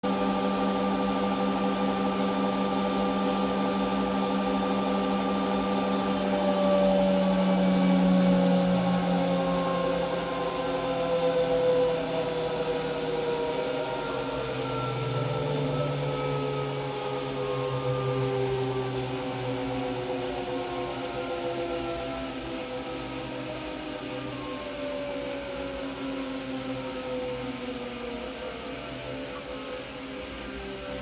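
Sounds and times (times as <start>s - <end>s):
washing machine spinning: 0.0s - 27.6s.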